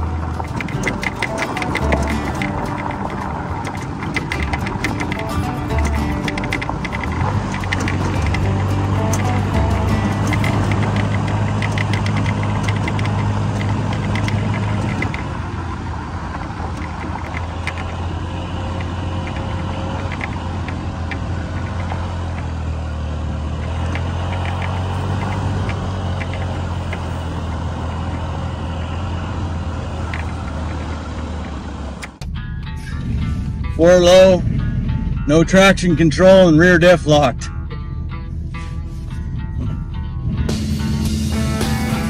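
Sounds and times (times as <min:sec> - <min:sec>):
scooter engine running: 0:00.0 - 0:32.2, 0:39.6 - 0:42.0
gravel ticking: 0:00.0 - 0:42.0.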